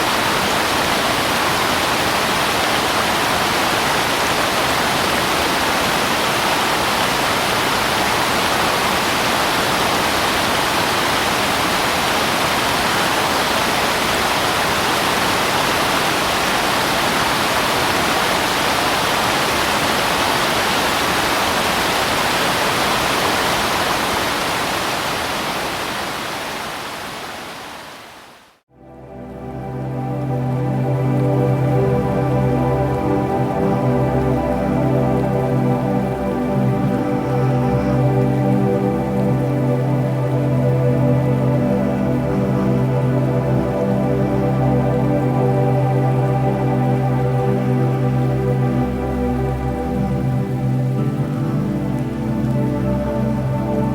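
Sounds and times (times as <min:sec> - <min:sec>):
waterfall rushing: 0:00.0 - 0:28.6, 0:29.2 - 0:53.9.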